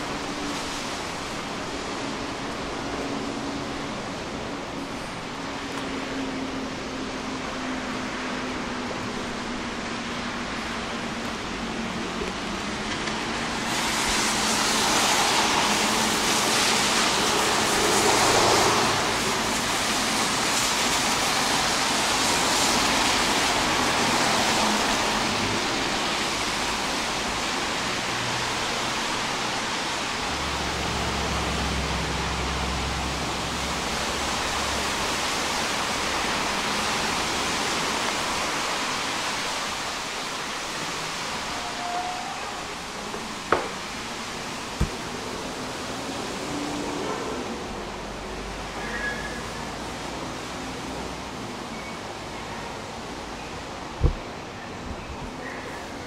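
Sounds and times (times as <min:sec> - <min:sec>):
rain hissing: 0:00.0 - 0:56.0
traffic noise: 0:00.0 - 0:56.0.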